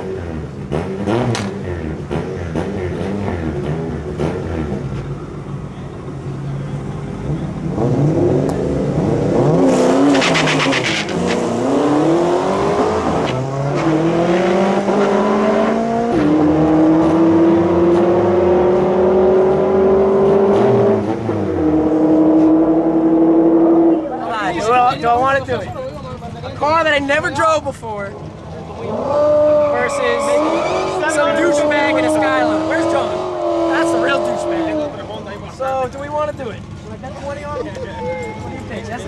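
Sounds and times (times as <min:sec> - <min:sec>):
supercharged engine at full throttle: 0:00.0 - 0:24.8, 0:28.3 - 0:36.8.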